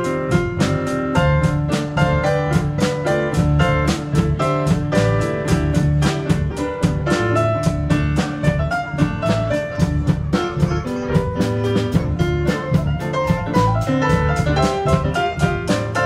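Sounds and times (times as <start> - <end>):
drum kit beat: 0.0 - 16.0
keyboard: 0.0 - 16.0.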